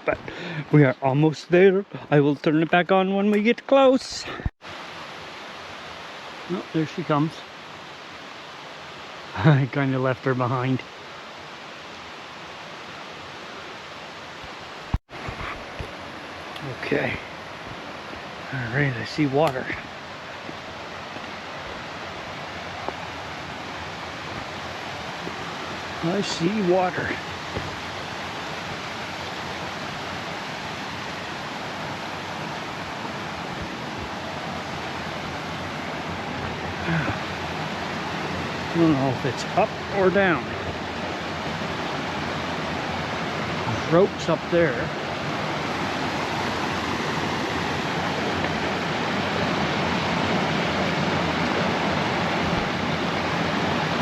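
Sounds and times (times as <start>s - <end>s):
brook water flowing: 0.0s - 54.0s.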